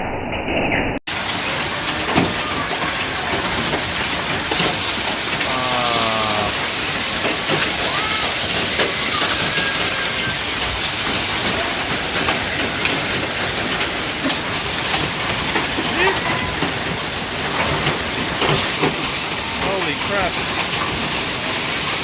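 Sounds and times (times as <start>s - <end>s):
hail and rain pelting down: 1.1s - 22.0s.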